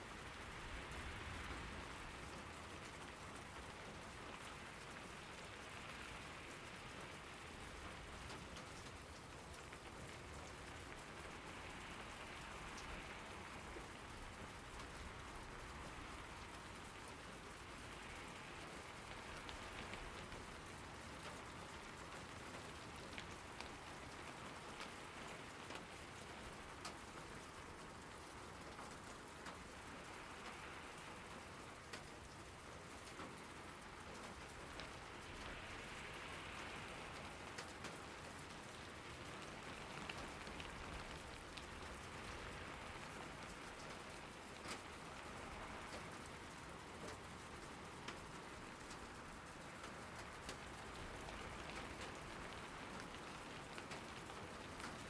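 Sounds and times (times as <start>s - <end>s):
steady rainfall hiss: 0.0s - 55.0s
raindrops ticking: 0.1s - 55.0s.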